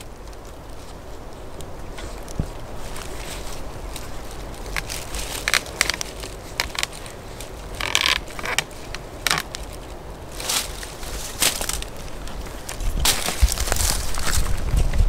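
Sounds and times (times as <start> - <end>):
dry leaves and clothing rustling: 0.0 - 15.0.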